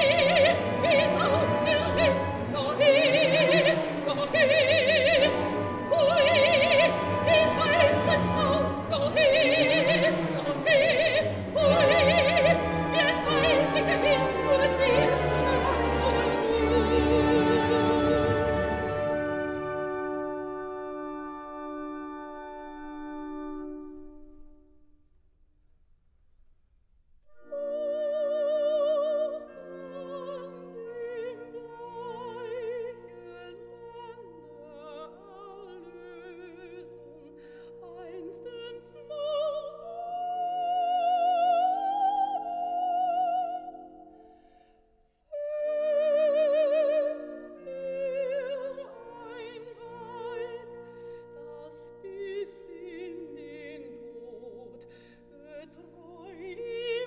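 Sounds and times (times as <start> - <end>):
operatic soprano singing: 0.0 - 23.7, 27.4 - 44.3, 45.3 - 57.0
full orchestra: 0.0 - 25.1, 27.3 - 57.0.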